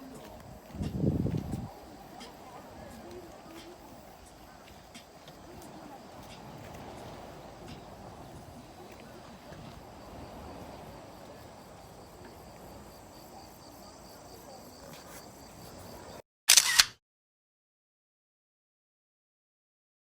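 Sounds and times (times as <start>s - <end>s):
faint low background noise: 0.0s - 16.2s.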